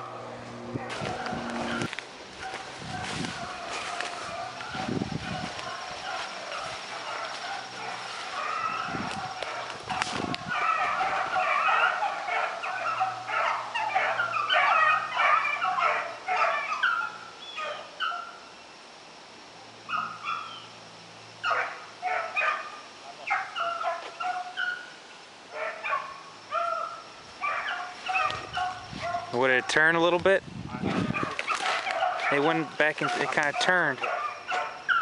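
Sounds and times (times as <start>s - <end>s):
hounds baying: 0.0s - 18.4s, 19.9s - 20.7s, 21.4s - 30.1s, 30.7s - 35.0s.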